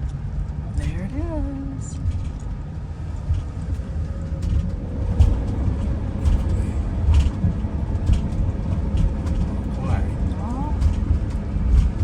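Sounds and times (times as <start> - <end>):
engine and road rumble: 0.0 - 12.0
faint clicks and rattles: 0.0 - 12.0.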